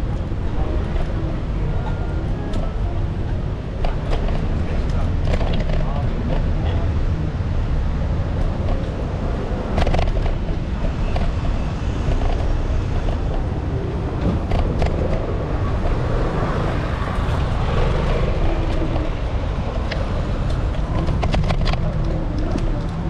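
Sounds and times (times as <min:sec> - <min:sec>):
cars passing: 0:00.0 - 0:23.0
low traffic rumble: 0:00.0 - 0:23.0.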